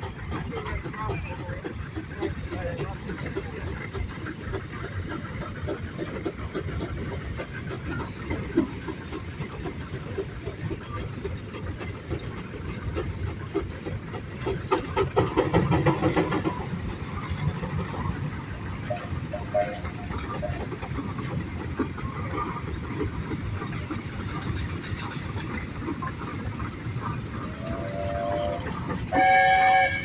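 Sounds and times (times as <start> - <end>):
steam machinery running: 0.0 - 30.0.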